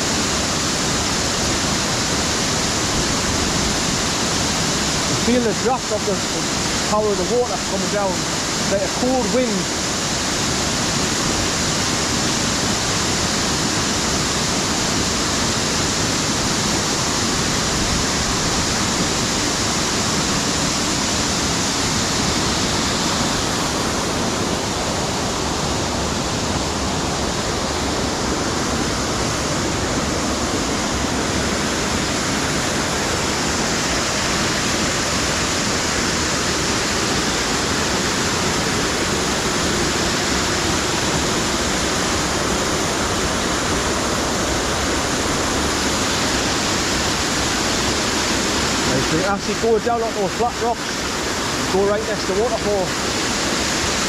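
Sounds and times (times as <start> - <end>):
waterfall crashing onto rocks: 0.0 - 54.0.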